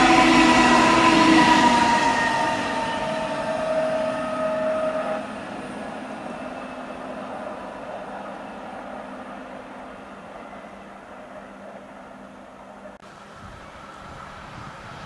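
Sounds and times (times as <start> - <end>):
distant train rail rumble: 0.0 - 15.0
electric train whining on rails: 0.0 - 15.0.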